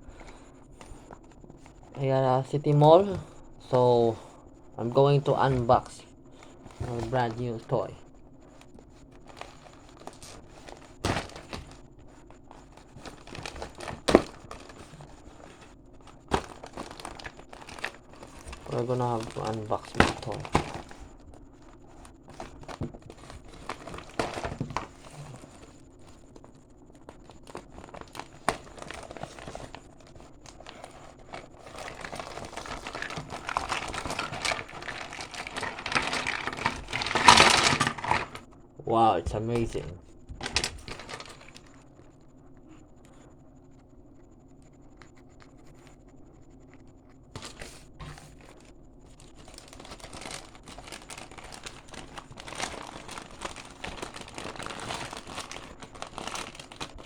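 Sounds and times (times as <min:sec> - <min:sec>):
plastic and cardboard crinkling: 0:00.0 - 0:04.2, 0:04.8 - 0:42.2, 0:47.3 - 0:57.0.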